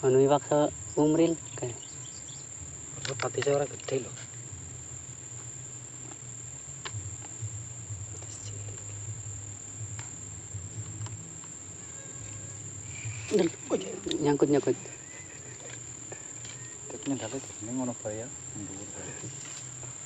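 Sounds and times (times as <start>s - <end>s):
insects droning: 0.0s - 20.0s
low hum: 0.0s - 20.0s.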